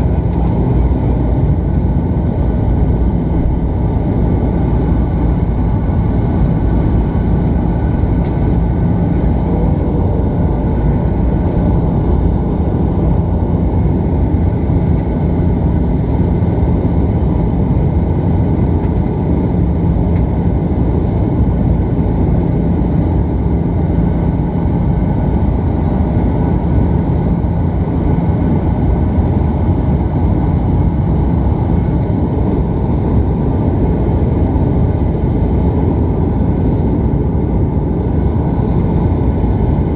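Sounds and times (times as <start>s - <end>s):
low hum: 0.0s - 39.9s
turboprop engines droning: 0.0s - 39.9s.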